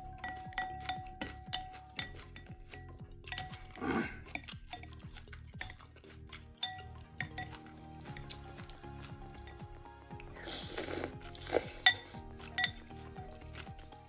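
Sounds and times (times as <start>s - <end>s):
utensils clinking against a bowl: 0.0s - 10.6s, 11.3s - 14.0s
background music: 0.0s - 14.0s.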